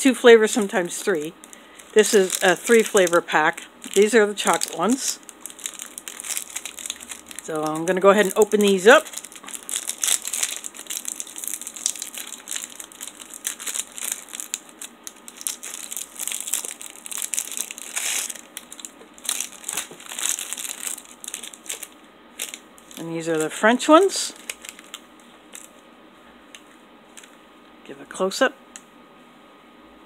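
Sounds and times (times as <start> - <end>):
plastic wrapper crinkling: 0.4 - 25.8, 26.5 - 27.4.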